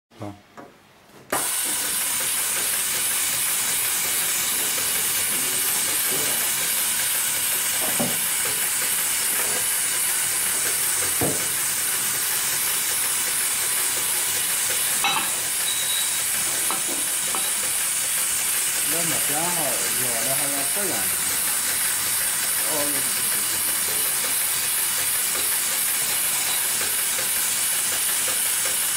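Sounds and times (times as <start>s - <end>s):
sewing machine running: 1.4s - 28.9s.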